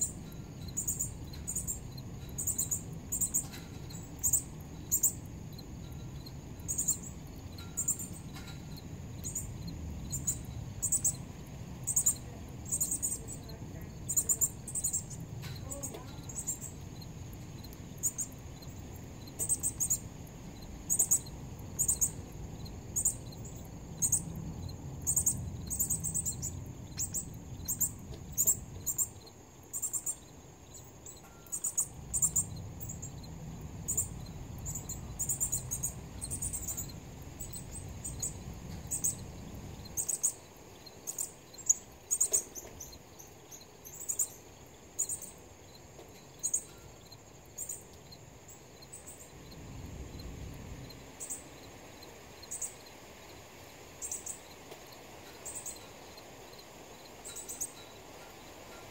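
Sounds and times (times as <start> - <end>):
high-pitched insect trill: 0.0 - 58.9.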